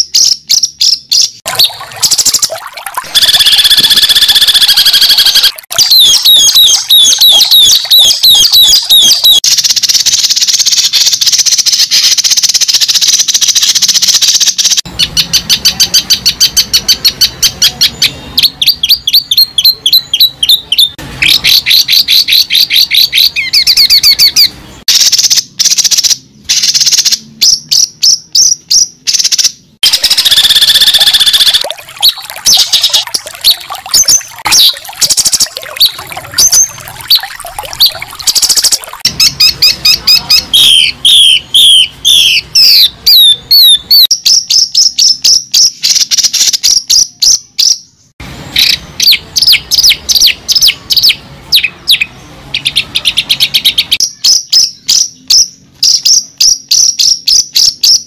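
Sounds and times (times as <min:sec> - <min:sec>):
bird chirps and trills: 0:00.0 - 0:47.9.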